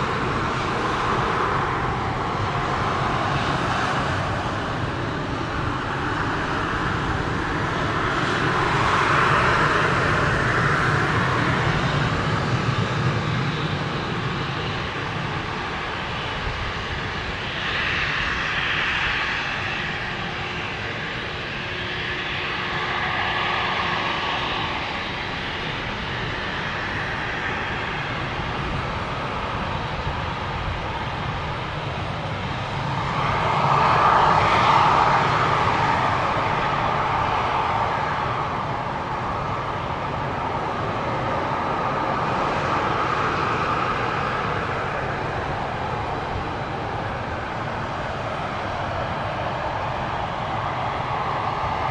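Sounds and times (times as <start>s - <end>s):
jet engines whining: 0.0s - 51.9s.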